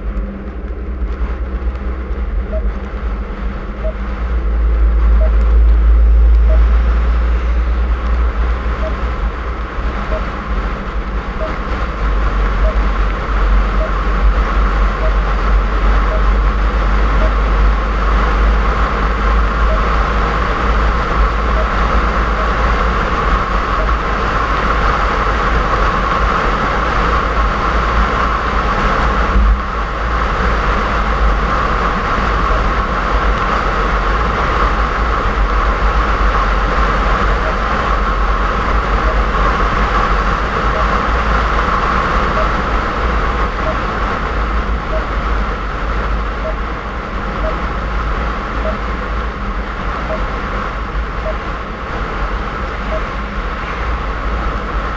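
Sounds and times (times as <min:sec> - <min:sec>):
car engine rumble: 0:00.0 - 0:54.9
tyres hissing on snowy road: 0:00.2 - 0:54.9.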